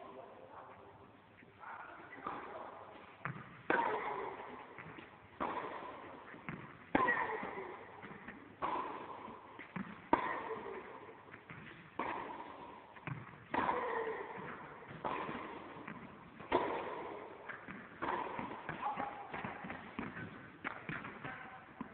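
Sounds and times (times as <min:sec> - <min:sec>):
tennis ball hits echoing: 0:02.2 - 0:21.9.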